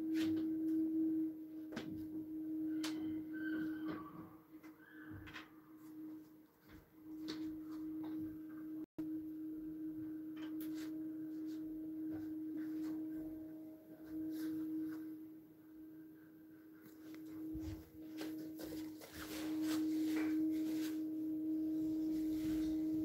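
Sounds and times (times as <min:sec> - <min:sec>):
steady hum: 0:00.0 - 0:04.5, 0:05.6 - 0:23.0.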